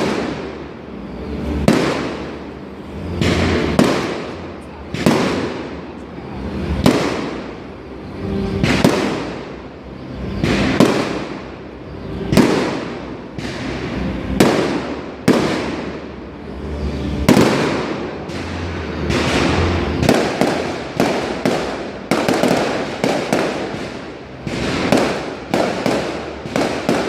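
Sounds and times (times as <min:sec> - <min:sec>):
fireworks bangs echoing: 0:00.0 - 0:07.8, 0:08.4 - 0:16.4, 0:17.1 - 0:27.0.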